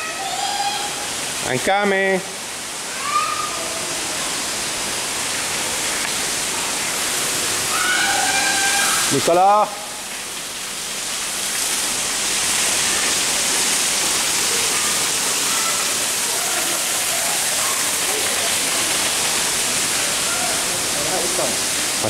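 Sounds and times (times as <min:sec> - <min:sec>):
falling water rushing: 0:00.0 - 0:22.0.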